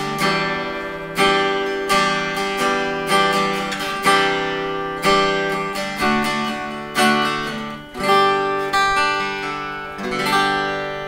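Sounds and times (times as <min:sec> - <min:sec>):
acoustic guitar fingerstyle chords: 0:00.0 - 0:11.0.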